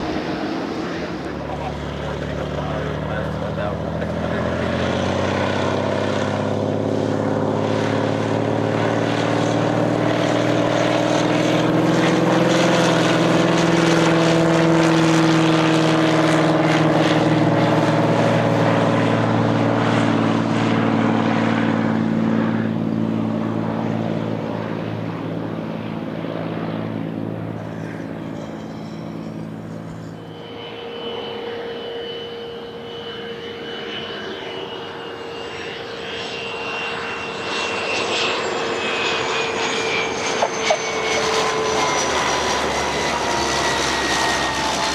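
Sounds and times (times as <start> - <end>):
propeller plane engine drone: 0.0 - 44.9.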